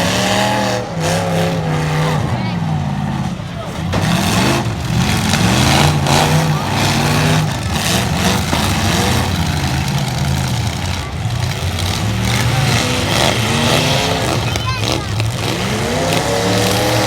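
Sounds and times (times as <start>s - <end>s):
truck engines revving: 0.0s - 17.0s
vehicle collision impacts: 3.0s - 17.0s.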